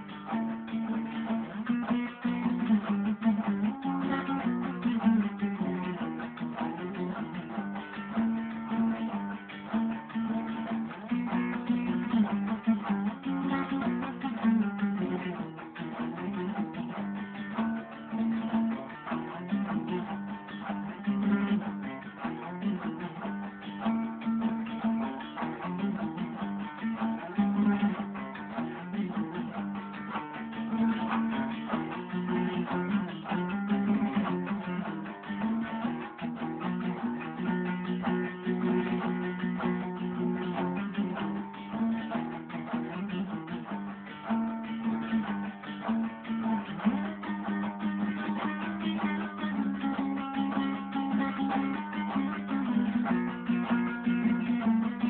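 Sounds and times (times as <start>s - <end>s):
plucked lute melody: 0.0s - 55.0s.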